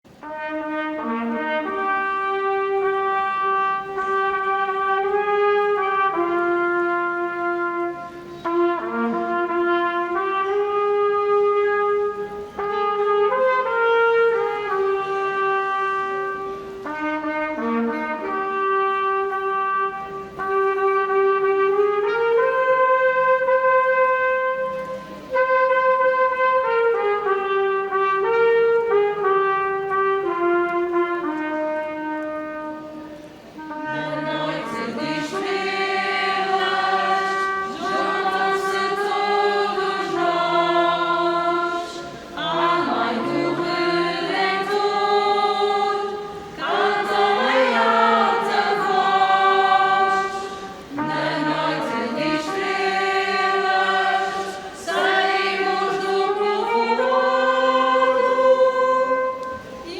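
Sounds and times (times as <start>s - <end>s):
brass instruments playing melody: 0.1s - 59.9s.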